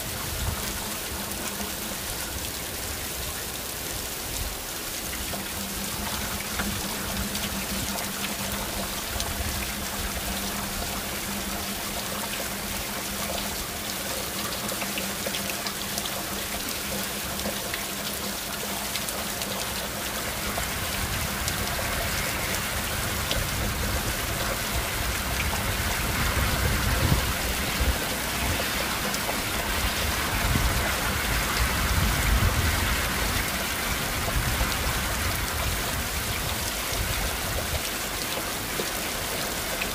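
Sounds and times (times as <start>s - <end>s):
heavy rain on roofs and streets: 0.0s - 39.9s.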